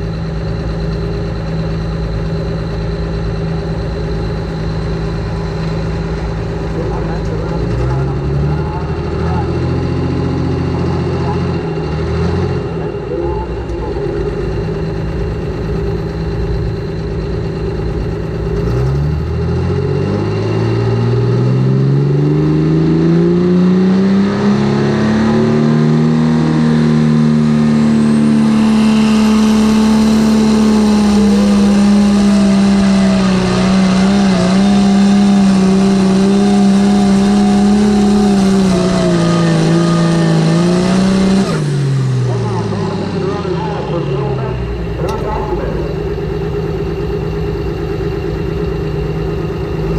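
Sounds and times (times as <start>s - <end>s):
tractor diesel engine revving: 0.0s - 49.9s.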